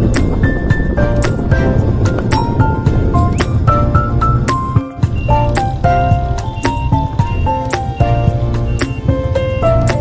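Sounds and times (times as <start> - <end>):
strong bass: 0.0 - 8.8
melody of held notes: 0.0 - 10.0.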